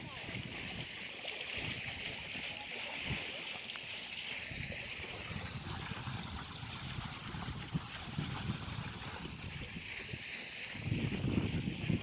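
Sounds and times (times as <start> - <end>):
fountain water rushing and splashing: 0.0 - 12.0.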